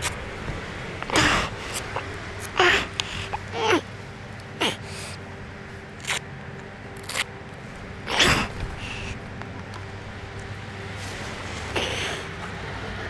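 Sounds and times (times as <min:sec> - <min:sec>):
gloves rustling and scraping: 0:00.0 - 0:12.6.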